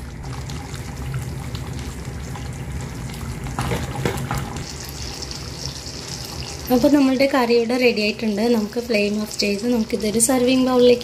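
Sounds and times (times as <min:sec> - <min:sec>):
curry bubbling in a pan: 0:00.0 - 0:10.4.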